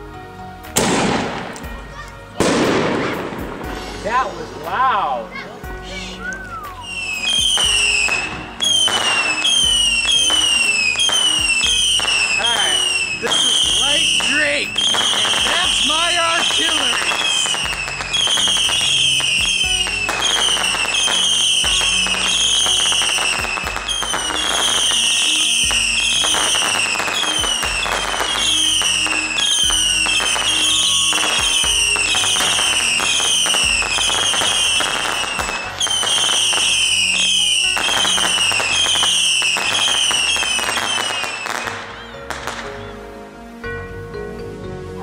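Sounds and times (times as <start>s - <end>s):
fireworks hiss and crackle: 0.7s - 43.0s
whistling fireworks: 6.3s - 43.0s.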